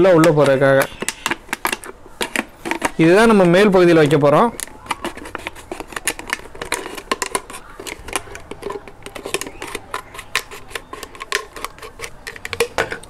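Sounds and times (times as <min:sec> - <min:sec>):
scissors cutting plastic bottle: 0:00.2 - 0:03.0, 0:04.5 - 0:13.0.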